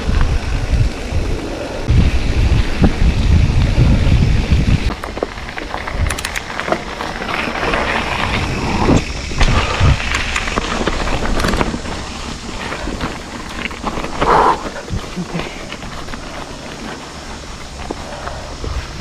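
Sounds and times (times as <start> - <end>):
bike tyres rolling over gravel: 0.0 - 19.0
wind on microphone: 0.0 - 19.0
bike knocks and rattles: 2.5 - 19.0.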